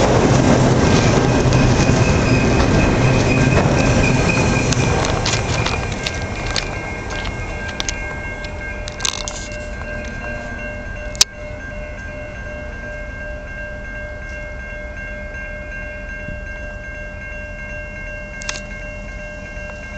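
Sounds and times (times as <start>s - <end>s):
crossing warning bell ringing: 0.0s - 19.9s
freight train rumbling on rails: 0.0s - 19.9s.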